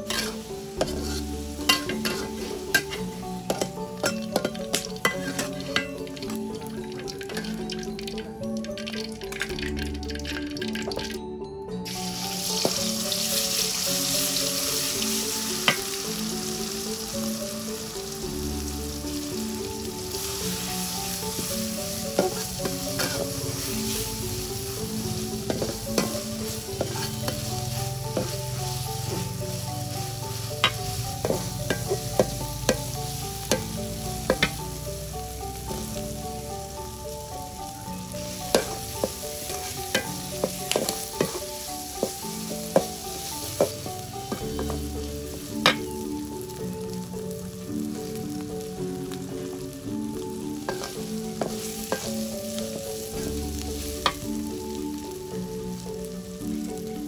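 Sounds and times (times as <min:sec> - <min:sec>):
food sizzling in a pan: 0:00.0 - 0:11.2, 0:11.8 - 0:57.0
soft background melody: 0:00.0 - 0:57.0.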